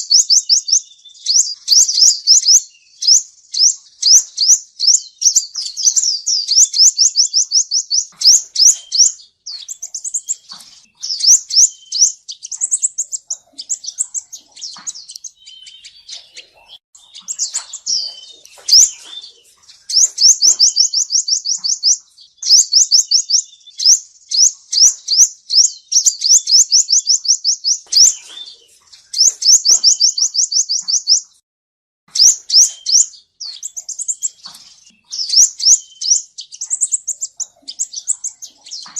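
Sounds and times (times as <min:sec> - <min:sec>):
sunbird high-pitched trill: 0:00.0 - 0:31.4, 0:32.1 - 0:38.9.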